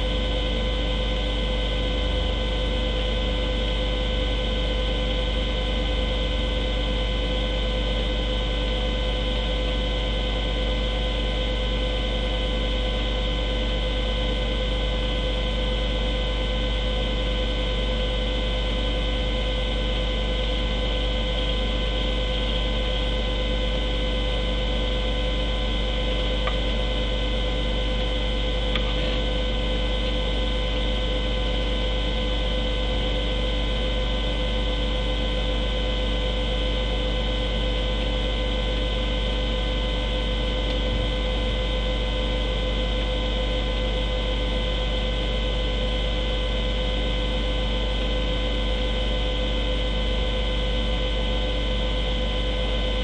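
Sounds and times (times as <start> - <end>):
electrical hum with whine: 0.0 - 53.0.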